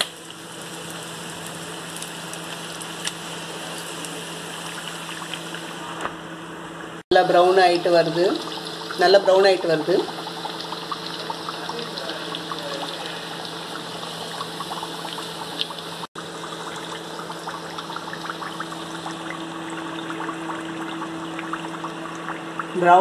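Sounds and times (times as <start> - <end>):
dough sizzling in hot oil: 0.0 - 5.8, 7.2 - 23.0.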